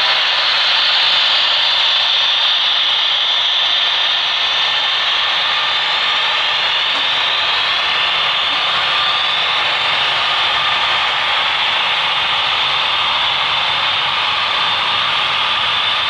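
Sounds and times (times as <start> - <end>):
model train wheels rolling on rails: 0.0 - 16.0.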